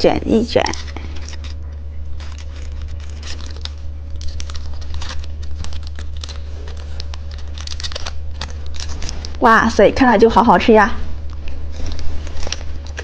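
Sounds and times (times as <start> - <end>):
steady low hum: 0.0 - 13.0
plastic wrapper crinkling: 0.7 - 9.8, 11.2 - 13.0.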